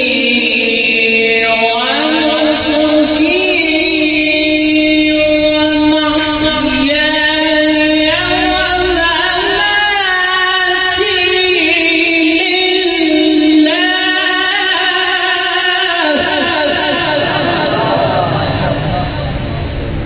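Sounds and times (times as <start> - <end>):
man reciting melodically into microphone: 0.0 - 19.7.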